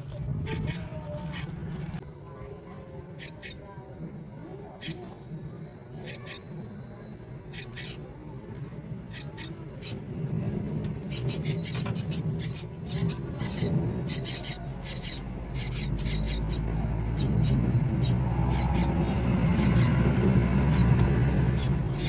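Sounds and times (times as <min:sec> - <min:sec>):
low background rumble: 0:00.0 - 0:22.0
nestlings squeaking: 0:00.4 - 0:01.7, 0:03.2 - 0:03.8, 0:04.7 - 0:08.3, 0:08.9 - 0:10.2, 0:10.8 - 0:22.0.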